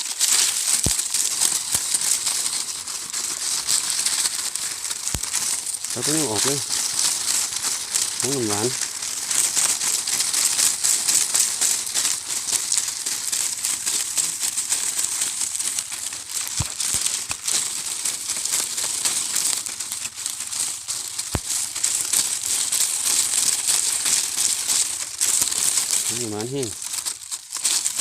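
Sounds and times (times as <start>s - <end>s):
leafy branch rustling and crackling: 0.0s - 28.0s.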